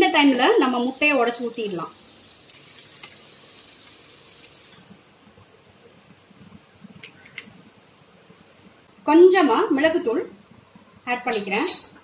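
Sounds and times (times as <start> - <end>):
faint low sizzle: 0.0 - 12.0.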